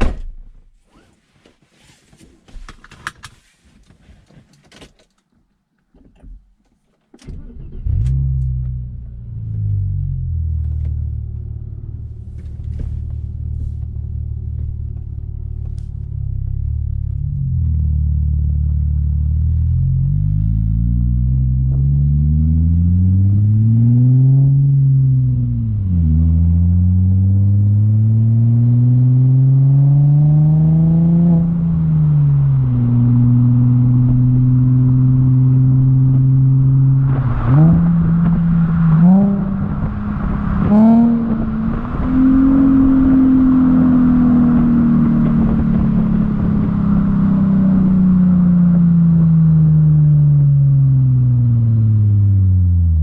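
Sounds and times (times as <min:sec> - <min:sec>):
car engine revving through gears: 0:07.2 - 0:53.0.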